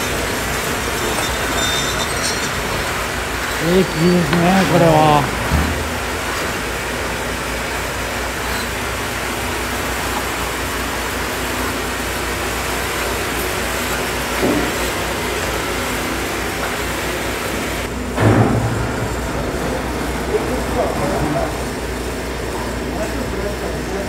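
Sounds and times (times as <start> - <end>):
sawmill machinery noise: 0.0 - 24.0.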